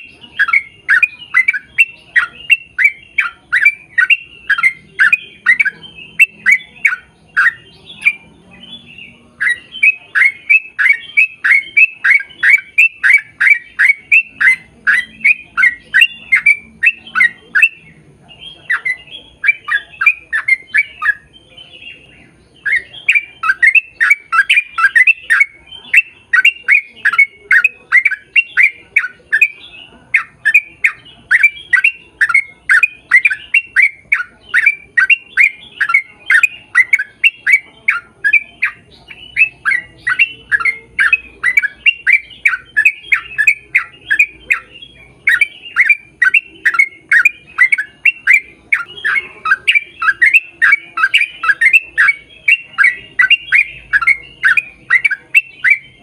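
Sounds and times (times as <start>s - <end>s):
bird squawking: 0.0s - 56.0s.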